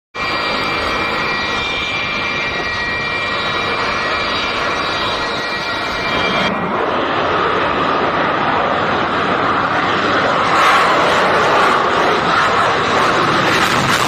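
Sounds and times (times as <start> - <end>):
jet engines rushing and whining: 0.2 - 14.0.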